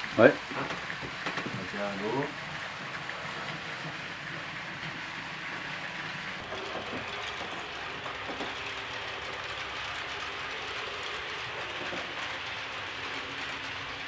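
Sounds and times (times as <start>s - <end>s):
model train wheels rolling on rail: 0.0s - 14.0s.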